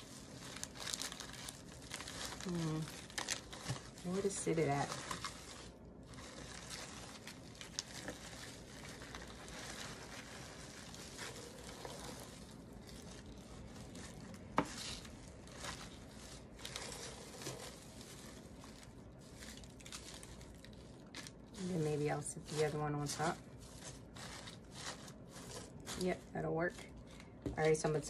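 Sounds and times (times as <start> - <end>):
paper shred and bubble wrap rustling: 0.0 - 28.0.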